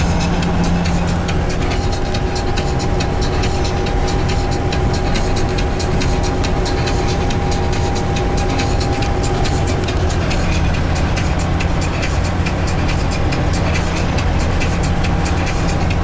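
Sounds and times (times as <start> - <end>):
constant whine: 0.0 - 16.0
engine drone: 0.0 - 16.0
rapid clicking rattles: 0.0 - 16.0
road rumble: 0.0 - 16.0.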